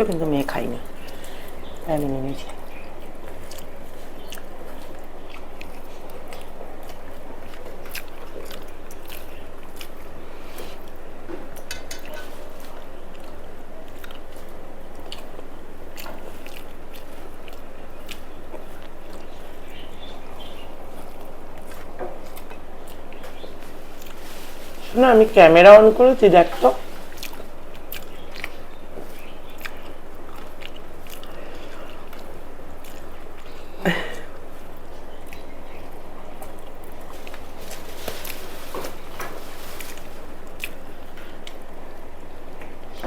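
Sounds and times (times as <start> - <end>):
low background hum: 0.0 - 43.0
person chewing with crunches: 0.0 - 43.0.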